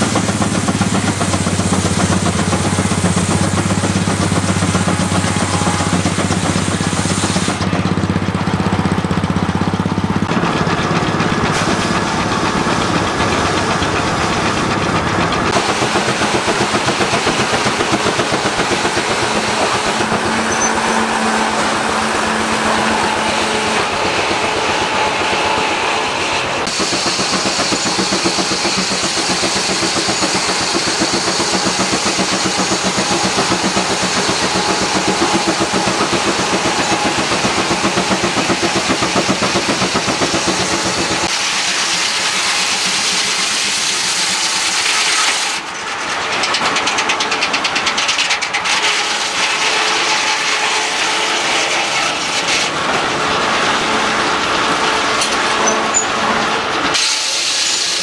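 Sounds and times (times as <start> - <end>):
circular saw and log carriage: 0.0 - 58.0
steam engine exhaust beating: 0.0 - 58.0.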